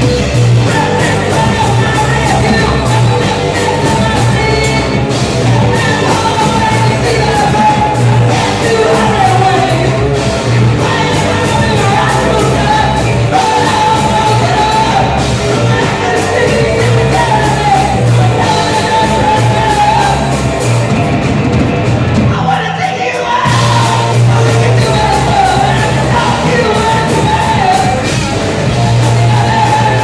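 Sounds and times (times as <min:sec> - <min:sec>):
person singing lead vocal: 0:00.0 - 0:21.1, 0:22.2 - 0:30.0
rock band playing: 0:00.0 - 0:30.0.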